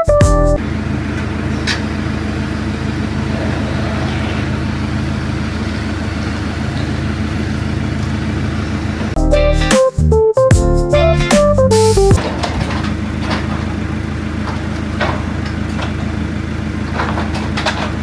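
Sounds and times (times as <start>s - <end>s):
diesel engine humming: 0.0s - 9.6s, 11.7s - 18.0s.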